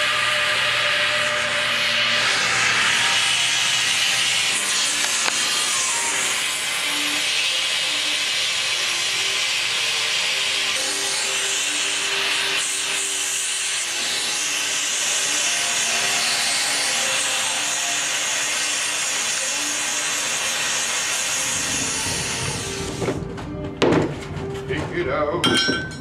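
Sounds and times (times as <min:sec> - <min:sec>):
gas torch flame hissing: 0:00.0 - 0:23.3.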